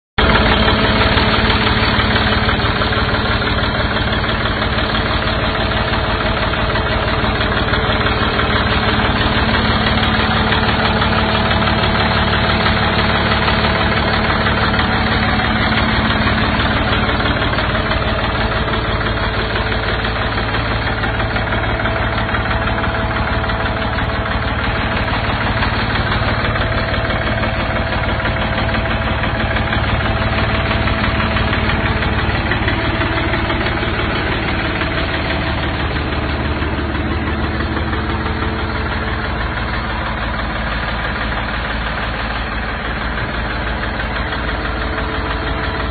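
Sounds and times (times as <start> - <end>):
tractor diesel engine idling: 0.2 - 45.9.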